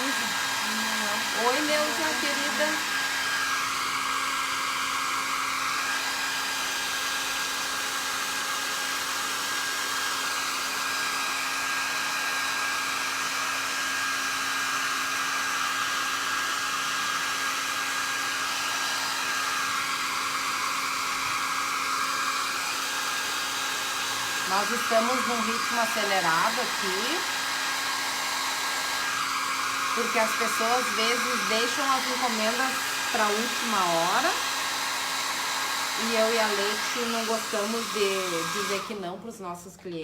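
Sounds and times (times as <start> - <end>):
hair dryer whining: 0.0 - 40.0.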